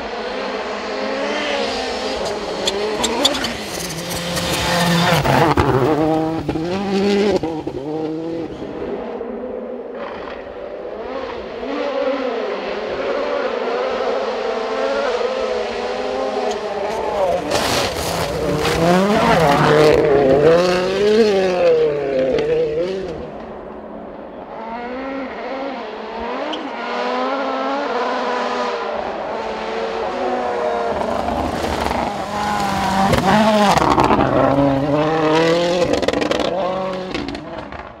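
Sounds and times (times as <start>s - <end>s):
rally car engine at full throttle: 0.0s - 38.0s.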